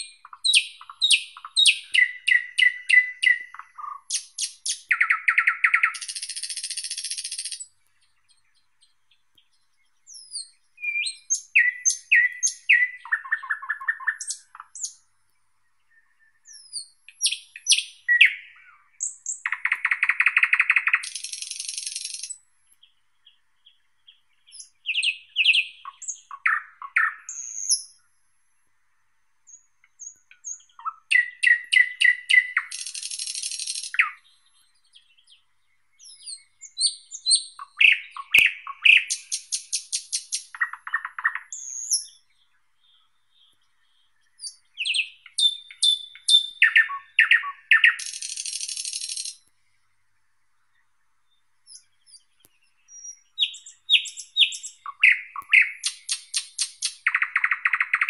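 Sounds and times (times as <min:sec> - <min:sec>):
thrush nightingale singing: 0:00.0 - 0:58.0.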